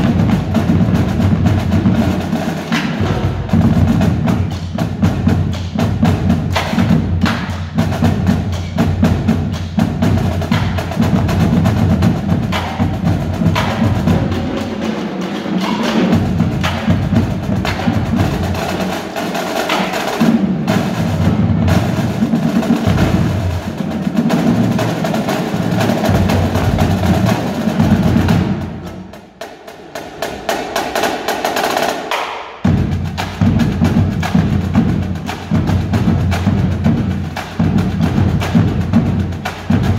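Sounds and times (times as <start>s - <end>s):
marching drumline playing: 0.0s - 39.9s.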